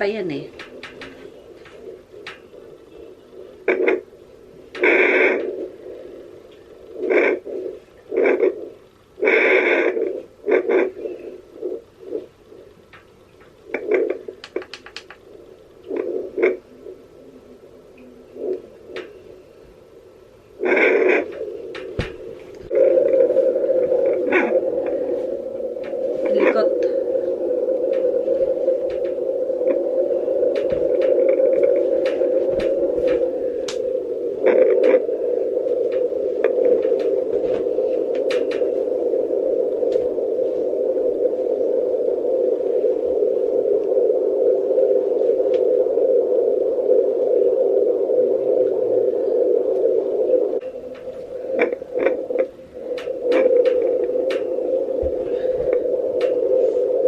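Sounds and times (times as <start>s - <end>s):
doppler speaker crackles: 0.0s - 57.0s.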